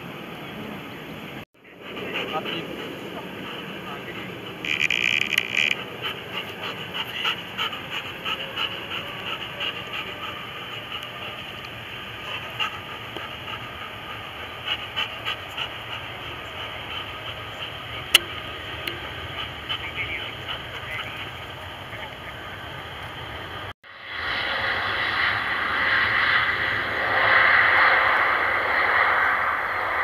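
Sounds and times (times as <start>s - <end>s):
jet engines roaring: 0.0s - 30.0s
loud burst of noise: 4.4s - 30.0s.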